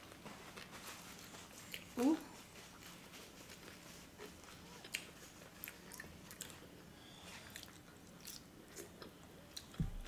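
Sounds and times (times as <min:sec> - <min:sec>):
faint chewing of food: 0:00.0 - 0:10.0.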